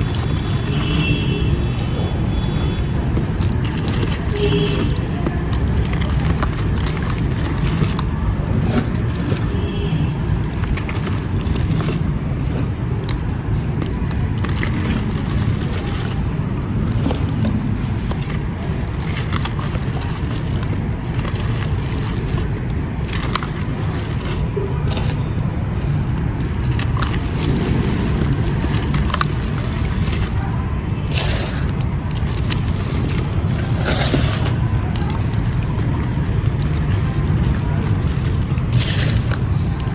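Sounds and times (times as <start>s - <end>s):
gritty crunching and scraping: 0.0s - 39.9s.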